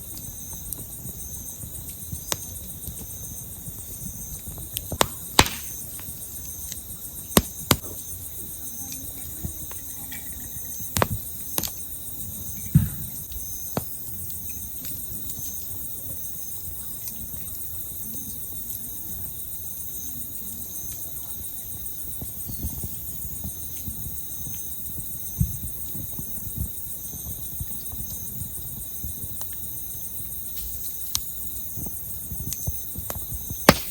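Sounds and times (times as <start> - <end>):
campfire pops and crackles: 0.0 - 33.9
insects trilling: 0.0 - 33.9.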